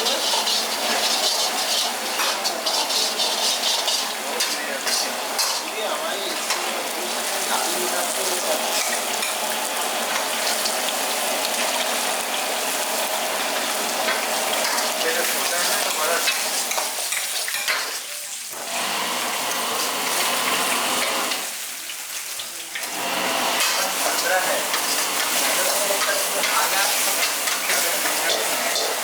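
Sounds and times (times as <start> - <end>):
food sizzling in a wok: 0.0 - 29.0.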